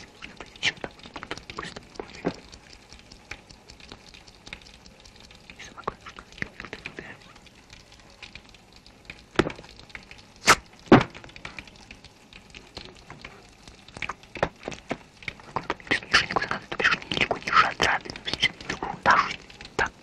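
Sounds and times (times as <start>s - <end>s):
faint clicks and taps: 0.0s - 20.0s.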